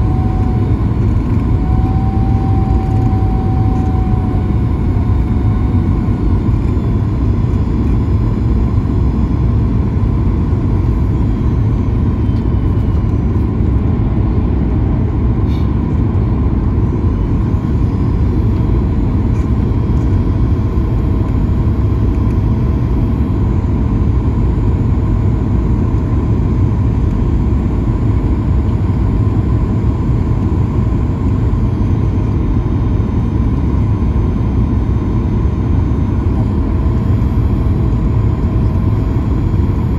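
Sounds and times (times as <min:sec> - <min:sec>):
faint steady whining tones: 0:00.0 - 0:39.9
low rumble of airflow and engines: 0:00.0 - 0:39.9.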